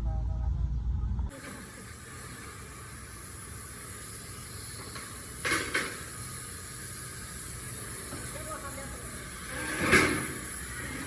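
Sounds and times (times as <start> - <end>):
steady hiss: 1.3 - 11.0.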